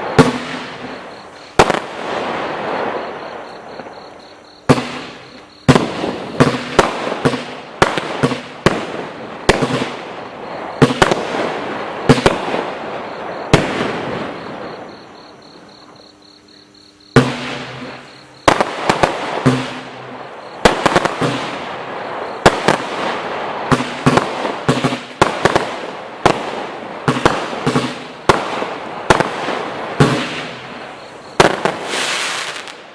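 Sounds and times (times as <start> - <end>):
firework crackling: 0.0 - 4.0, 4.7 - 14.8, 17.2 - 32.9
firework bangs: 0.0 - 15.0, 17.1 - 32.9.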